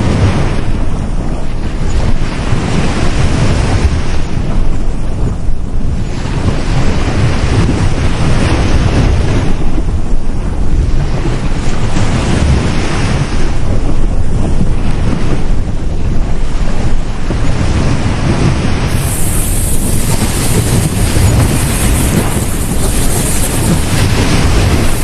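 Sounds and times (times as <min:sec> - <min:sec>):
sea waves breaking on beach: 0:00.0 - 0:25.0
wind rumble on microphone: 0:00.0 - 0:25.0.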